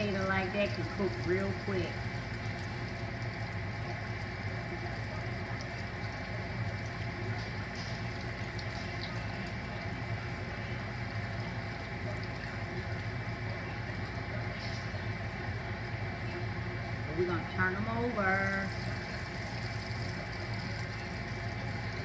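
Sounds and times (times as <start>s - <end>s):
potatoes deep-frying in oil: 0.0s - 22.0s
steady low hum: 0.0s - 22.0s.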